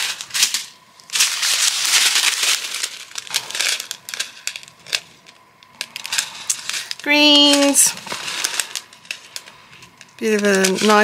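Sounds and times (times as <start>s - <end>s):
plastic bags crinkling and rattling: 0.0s - 11.0s.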